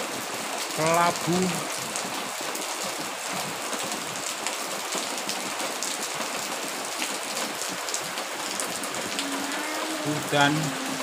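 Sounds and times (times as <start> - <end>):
heavy rain on paving: 0.0 - 11.0.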